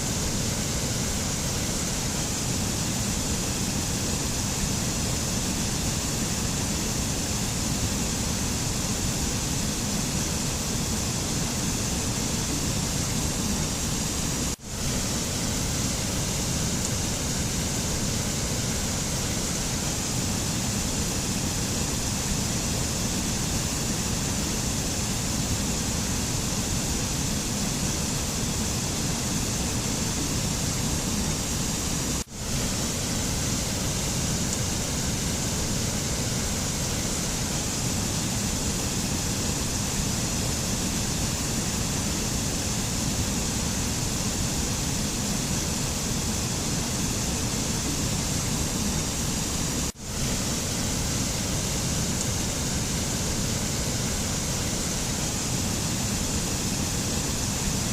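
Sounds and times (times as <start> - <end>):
steady rushing nature noise: 0.0 - 57.9.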